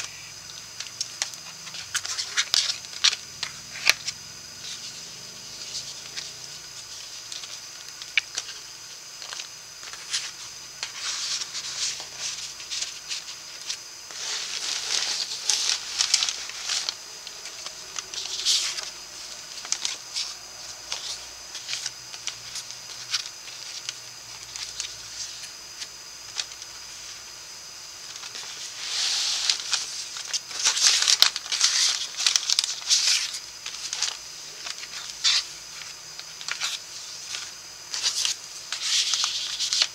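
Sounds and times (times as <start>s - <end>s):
paper rustling and sliding: 0.0s - 27.2s, 28.0s - 39.9s.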